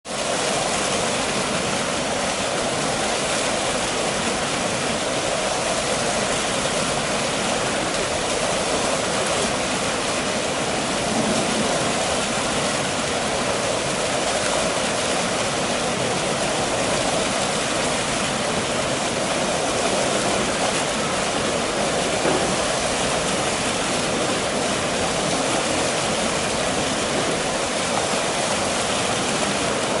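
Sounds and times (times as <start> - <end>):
waterfall pouring and splashing: 0.0 - 30.0.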